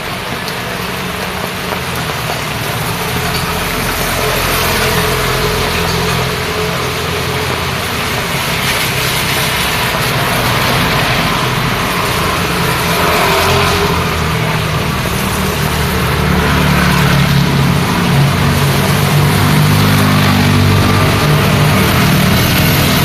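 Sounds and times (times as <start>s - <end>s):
car and motorbike engines: 0.0s - 23.0s
rain hiss: 0.0s - 23.0s
wet tyres on road: 0.0s - 23.0s.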